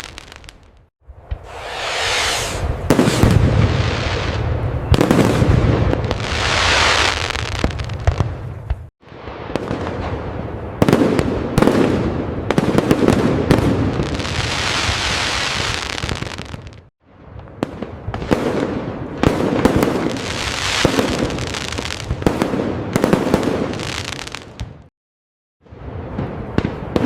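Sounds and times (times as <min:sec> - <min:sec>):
fireworks bursting and crackling: 0:00.0 - 0:24.9, 0:25.7 - 0:27.0.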